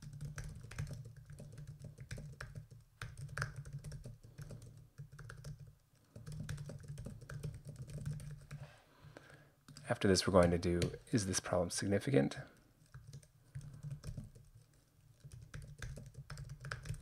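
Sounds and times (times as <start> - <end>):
keyboard typing: 0.0 - 8.6, 9.7 - 11.0, 12.5 - 17.0.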